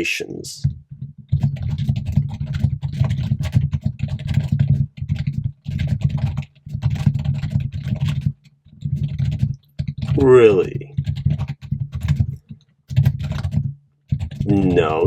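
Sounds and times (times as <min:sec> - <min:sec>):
fast typing on a keyboard: 0:00.6 - 0:15.0.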